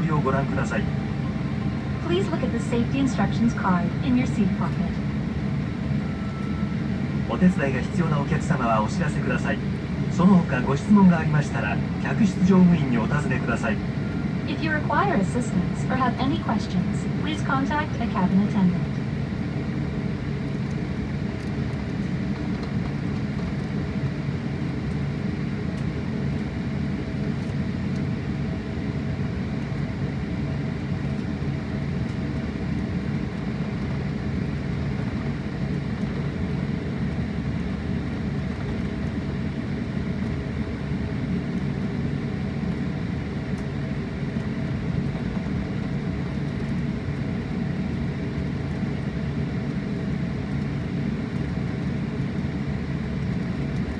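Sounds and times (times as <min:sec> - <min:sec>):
air-conditioning hum: 0:00.0 - 0:53.9
jet engines drone: 0:00.0 - 0:53.9.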